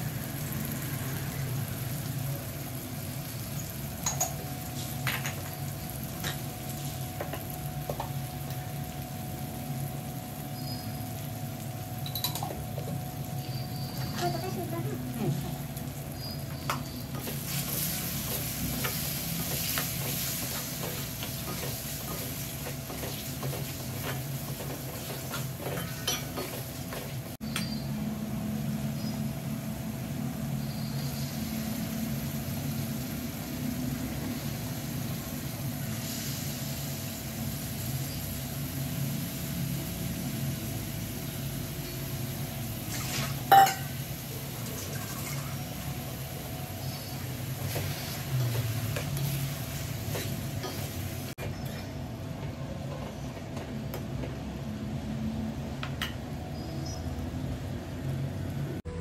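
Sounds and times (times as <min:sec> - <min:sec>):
food sizzling in a pan: 0:00.0 - 0:51.7.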